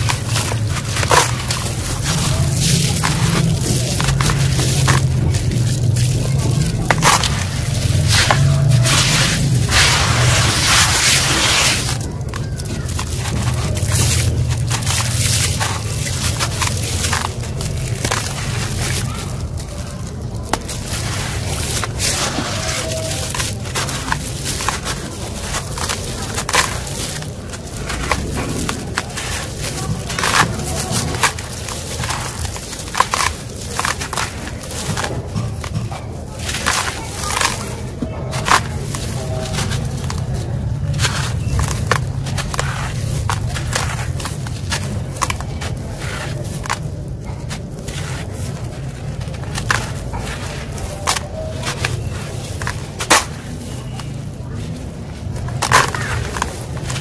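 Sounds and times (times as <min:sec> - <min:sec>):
concrete crunching between fingers: 0:00.0 - 0:57.0.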